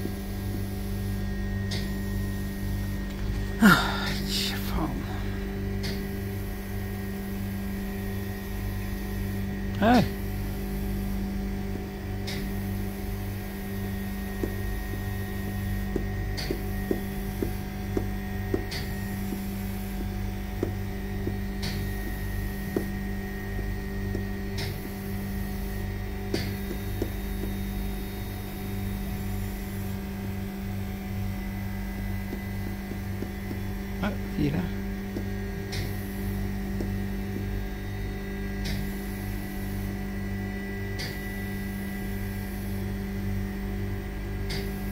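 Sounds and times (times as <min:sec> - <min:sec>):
machine hum with low drone: 0:00.0 - 0:44.9.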